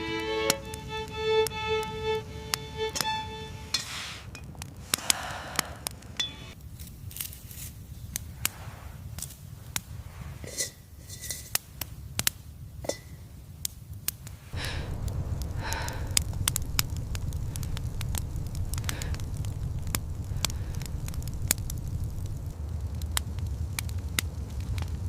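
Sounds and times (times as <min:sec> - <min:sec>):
fire crackling and popping: 0:00.0 - 0:25.0
low fire rumble: 0:00.0 - 0:25.0.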